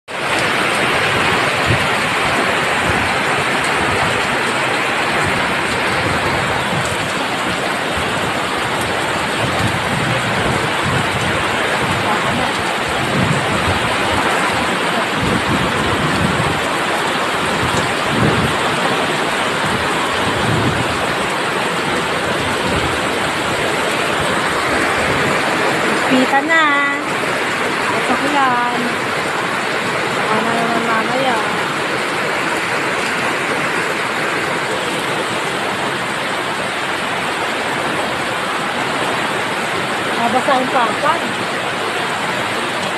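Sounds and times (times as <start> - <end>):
heavy rain pouring: 0.1 - 42.9.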